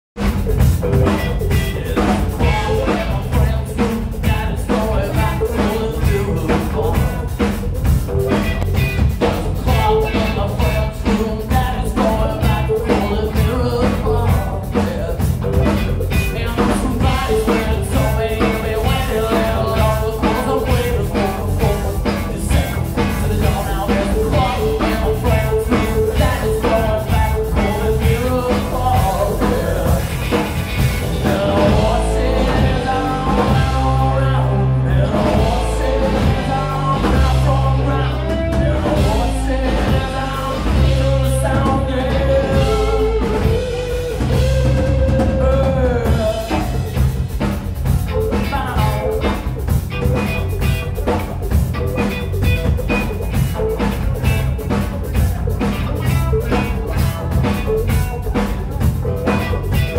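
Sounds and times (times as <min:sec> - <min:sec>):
drum kit: 0:00.1 - 0:59.9
electric bass: 0:00.1 - 0:59.9
electric guitar: 0:00.2 - 0:59.9
man singing: 0:00.9 - 0:51.3, 0:51.9 - 0:59.9.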